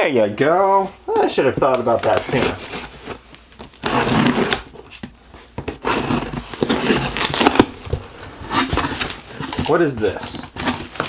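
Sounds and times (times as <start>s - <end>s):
cardboard box rustling and scraping: 0.5s - 11.0s.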